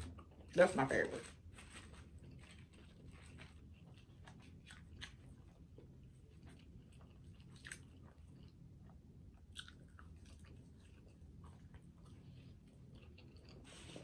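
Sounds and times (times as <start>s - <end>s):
person chewing food: 1.3s - 14.0s.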